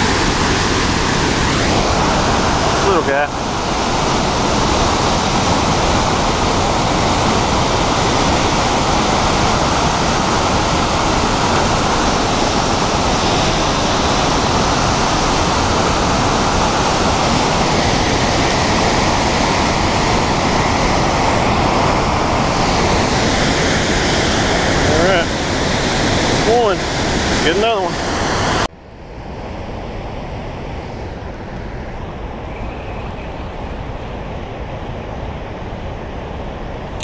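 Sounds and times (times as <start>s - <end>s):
rushing white water: 0.0s - 37.0s.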